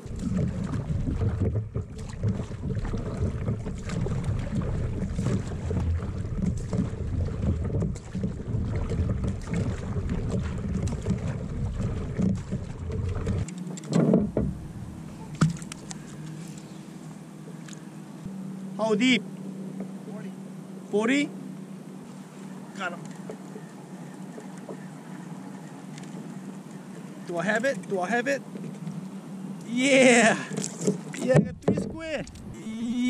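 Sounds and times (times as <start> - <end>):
paddle strokes and water on hull: 0.0 - 20.3, 21.0 - 33.0.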